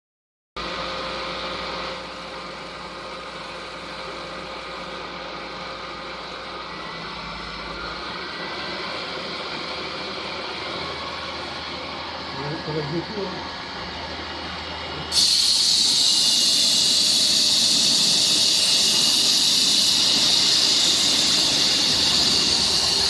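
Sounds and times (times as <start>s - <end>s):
milling machine hum and whir: 0.6s - 23.0s.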